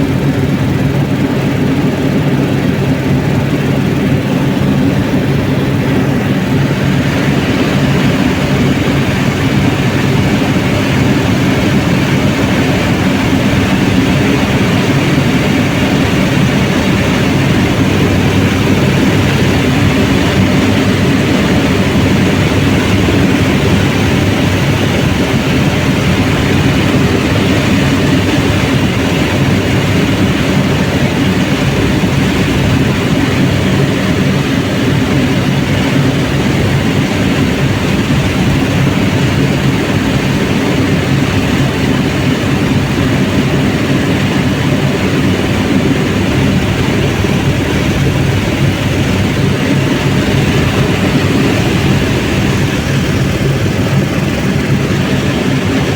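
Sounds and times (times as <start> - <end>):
helicopter rotor and engine drone: 0.0 - 55.9.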